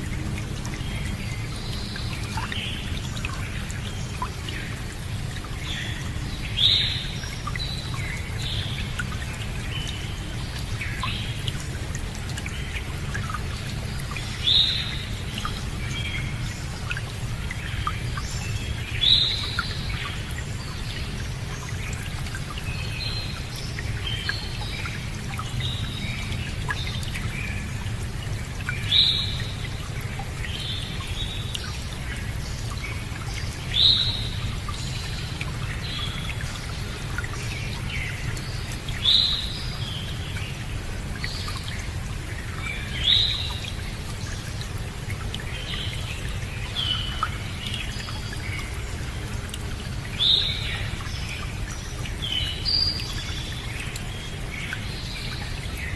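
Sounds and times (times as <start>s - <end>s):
running water: 0.0s - 55.9s.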